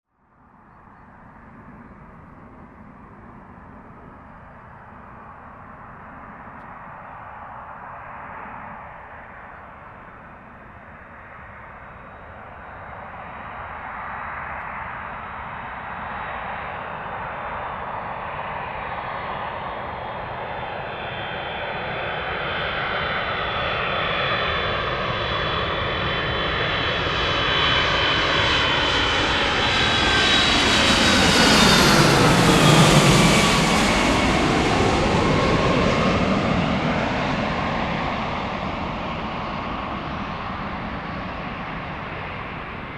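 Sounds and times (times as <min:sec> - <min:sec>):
jet plane flying past: 0:00.3 - 0:42.9.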